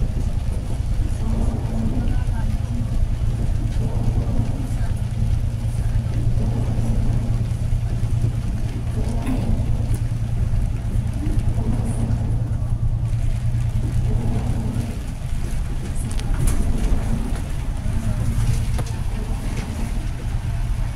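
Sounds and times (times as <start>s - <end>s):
bus engine and tyres droning: 0.0s - 20.9s.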